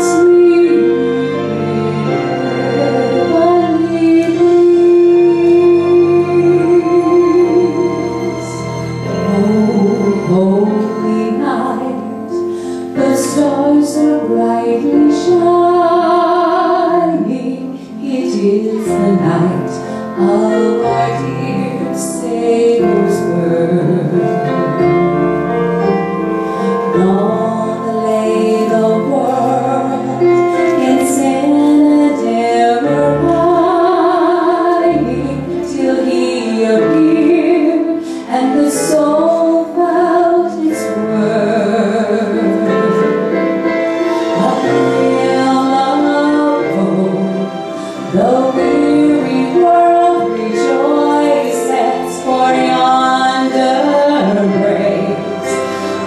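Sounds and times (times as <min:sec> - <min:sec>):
woman singing into microphone: 0:00.0 - 0:01.4, 0:02.4 - 0:24.8, 0:26.7 - 0:43.4, 0:44.3 - 0:56.0
instrumental accompaniment: 0:00.0 - 0:56.0.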